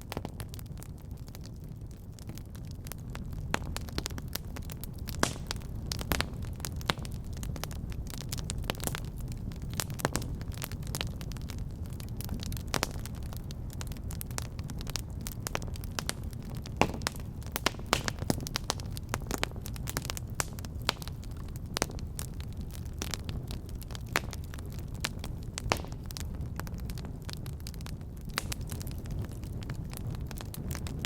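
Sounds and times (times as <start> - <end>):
fire crackling with sharp pops: 0.0 - 31.0
low rumble of flames: 0.0 - 31.0.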